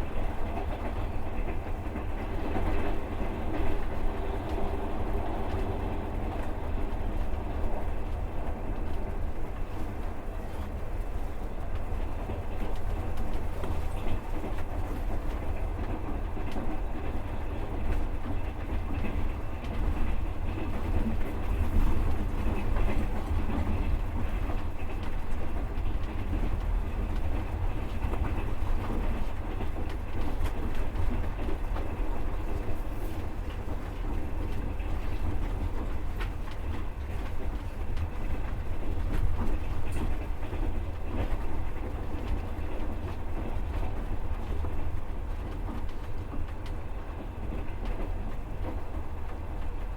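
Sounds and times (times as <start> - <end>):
train low rumble: 0.0 - 49.9
wheels clattering on rails: 0.0 - 49.9.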